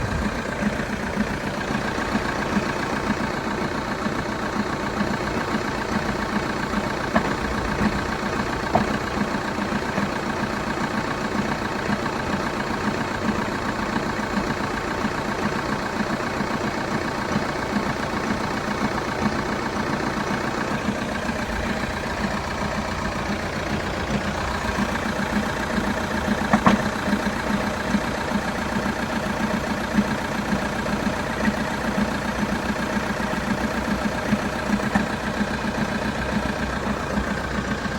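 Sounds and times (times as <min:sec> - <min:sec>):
diesel engine idling: 0:00.0 - 0:37.9
rapid rattling engine knock: 0:00.0 - 0:37.9.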